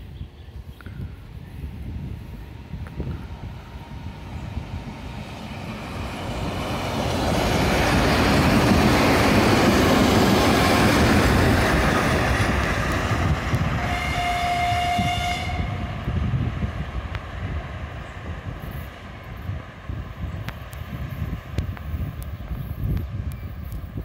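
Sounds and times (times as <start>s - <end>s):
diesel locomotive engines: 0.0s - 24.0s
train wheels on rails: 1.1s - 24.0s.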